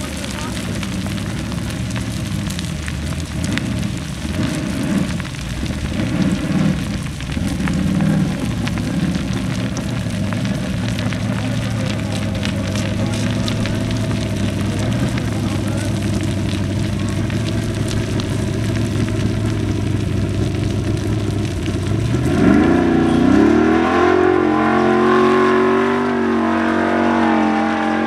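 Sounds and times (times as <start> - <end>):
buggy engine revving: 0.0 - 28.0
dirt and stones crackling: 0.0 - 28.0.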